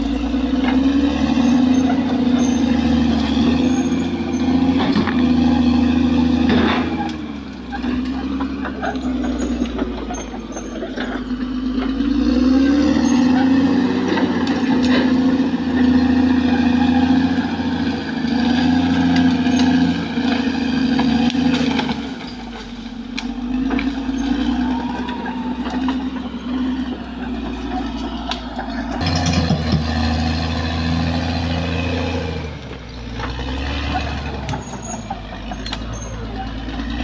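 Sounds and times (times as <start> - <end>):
bulldozer diesel engine droning: 0.0 - 37.0
clanks and clicks: 0.2 - 12.2, 12.9 - 30.2, 32.6 - 37.0.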